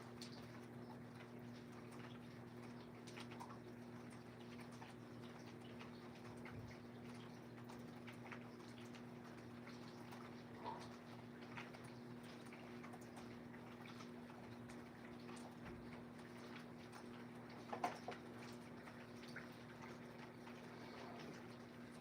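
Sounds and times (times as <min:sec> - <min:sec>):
faint water dripping: 0:00.0 - 0:22.0.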